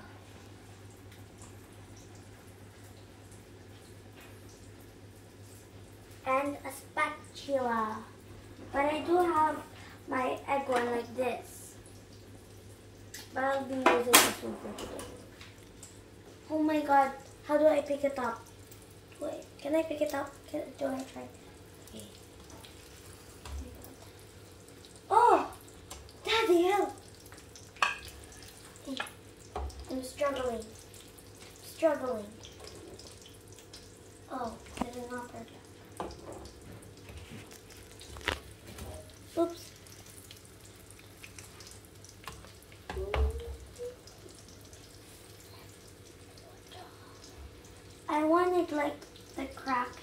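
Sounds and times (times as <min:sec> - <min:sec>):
eggs sizzling in a pan: 0:00.0 - 0:50.0.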